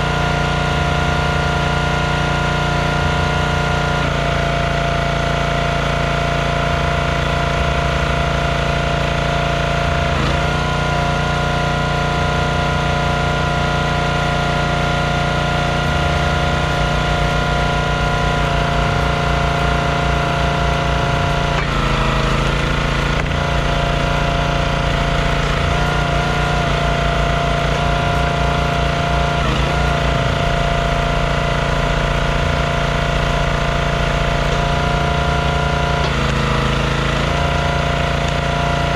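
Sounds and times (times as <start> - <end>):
log splitter gas engine running: 0.0 - 38.9.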